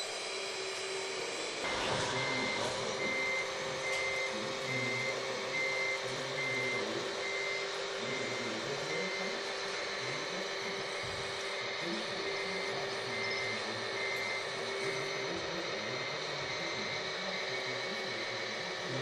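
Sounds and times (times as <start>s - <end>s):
mechanical hum: 0.0s - 19.0s
reversing alarm beeping: 1.6s - 19.0s.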